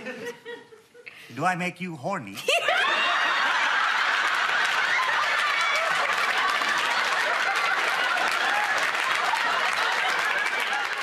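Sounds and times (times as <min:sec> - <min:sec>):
studio audience laughing: 0:00.0 - 0:01.2, 0:02.3 - 0:11.0.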